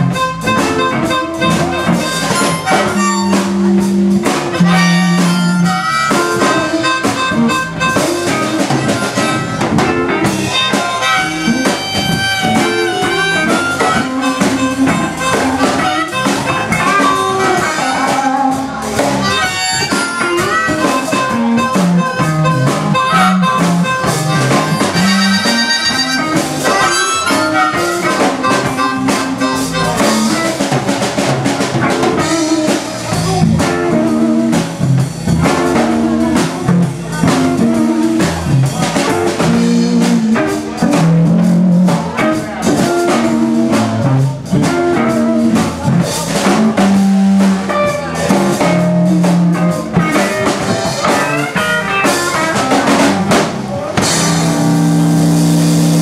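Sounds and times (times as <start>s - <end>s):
blues band playing: 0.0s - 56.0s
electric guitar: 0.0s - 56.0s.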